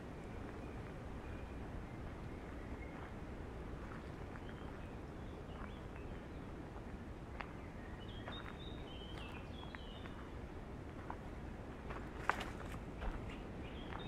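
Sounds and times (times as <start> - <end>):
wind rushing through trees: 0.0 - 14.0
footsteps on path: 2.1 - 14.0.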